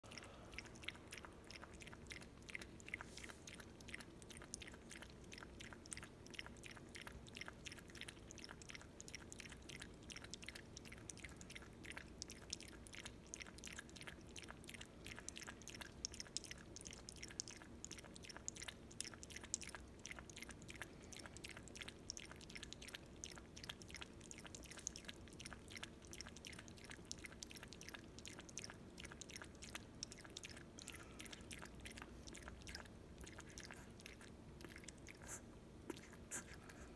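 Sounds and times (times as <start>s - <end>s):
dog lapping water from bowl: 0.0s - 36.9s.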